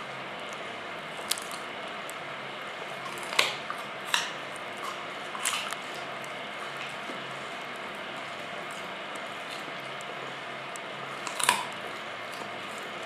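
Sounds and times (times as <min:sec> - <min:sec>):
dog crunching carrot: 0:00.5 - 0:02.2, 0:02.8 - 0:13.0.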